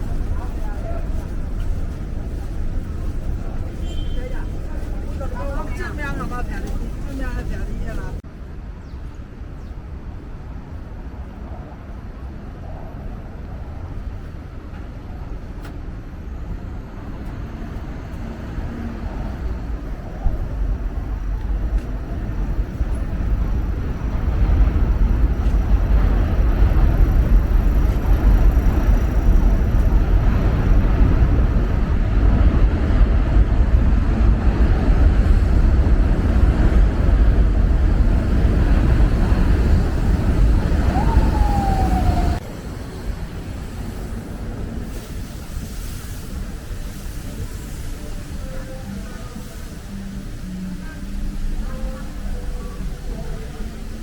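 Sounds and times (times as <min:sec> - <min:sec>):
rumble of passing vehicles: 0:00.0 - 0:54.0.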